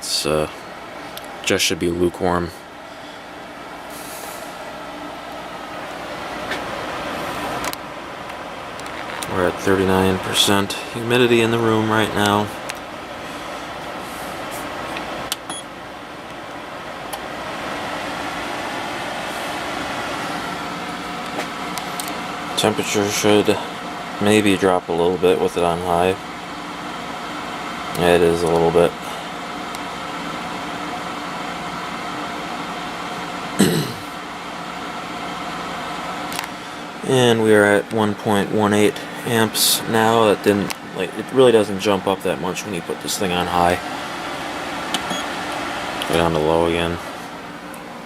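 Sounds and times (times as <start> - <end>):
dehumidifier fan and compressor humming: 0.0 - 48.0.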